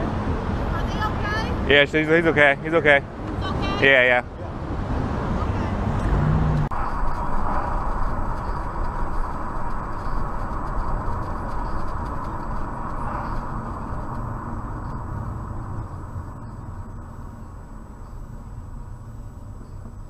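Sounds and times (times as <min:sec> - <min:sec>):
vehicle road noise: 0:00.0 - 0:20.0.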